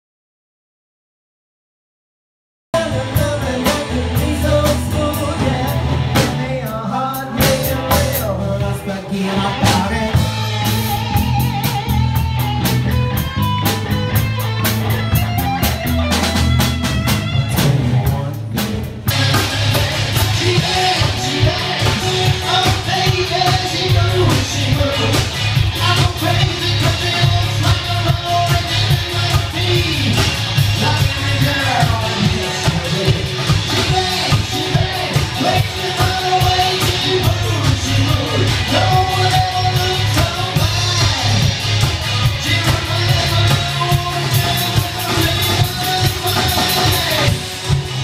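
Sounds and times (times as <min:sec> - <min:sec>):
person singing: 0:02.8 - 0:11.8, 0:17.4 - 0:41.6, 0:42.2 - 0:47.6
rock band playing: 0:02.8 - 0:48.0.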